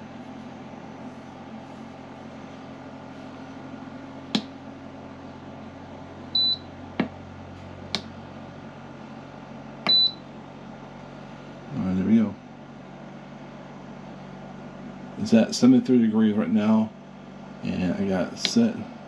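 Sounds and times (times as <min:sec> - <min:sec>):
refrigerator humming: 0:00.0 - 0:19.0.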